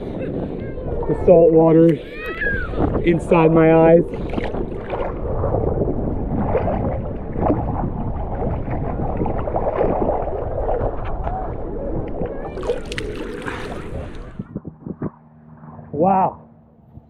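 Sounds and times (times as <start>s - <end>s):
sea water splashing and sloshing: 0.0s - 14.6s.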